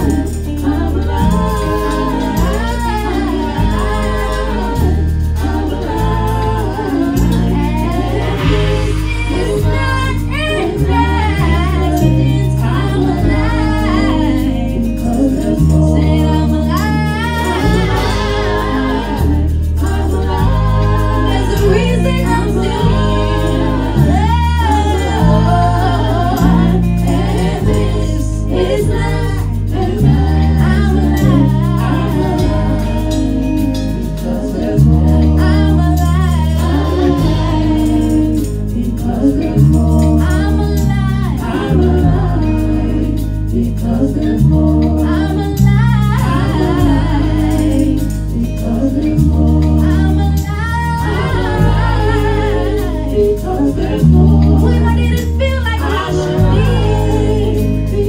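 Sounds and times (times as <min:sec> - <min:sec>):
backing female voices singing: 0:00.0 - 0:58.0
deep bass line: 0:00.0 - 0:58.0
woman singing lead: 0:00.0 - 0:58.0.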